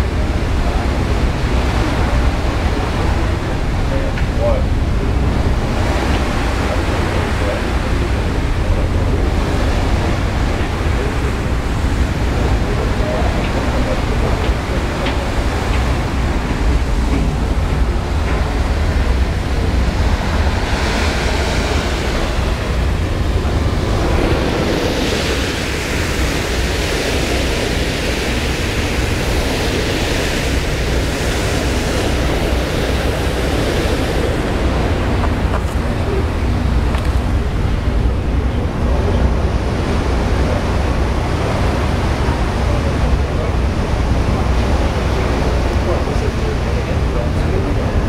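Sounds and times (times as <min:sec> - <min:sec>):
boat wake churning water: 0:00.0 - 0:48.0
wind buffeting microphone: 0:00.0 - 0:48.0.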